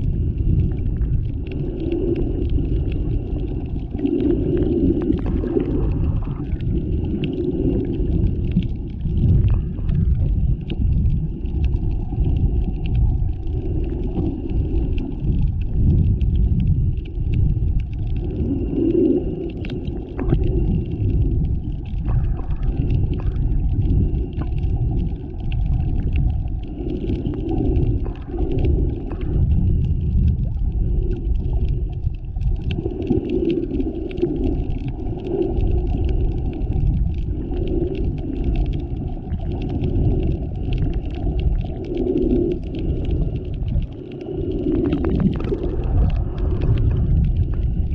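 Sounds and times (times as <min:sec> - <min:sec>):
muffled underwater rumble: 0:00.0 - 0:47.9.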